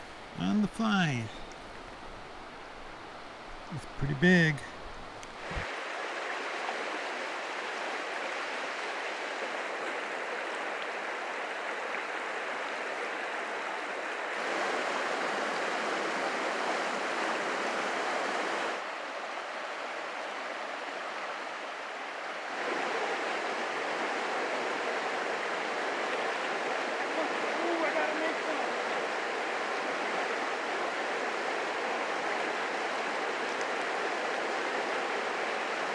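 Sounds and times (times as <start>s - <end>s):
water rushing over rocks: 0.0s - 35.9s.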